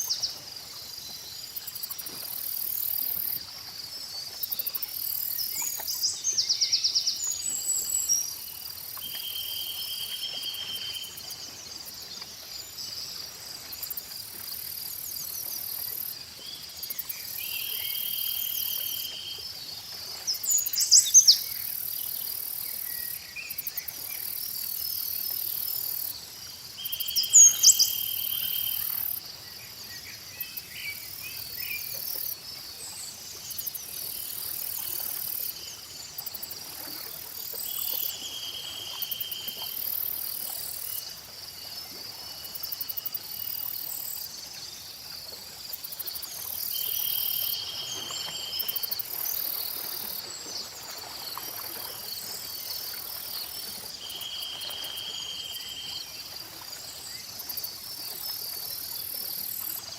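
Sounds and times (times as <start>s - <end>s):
crickets chirring: 0.0s - 59.9s.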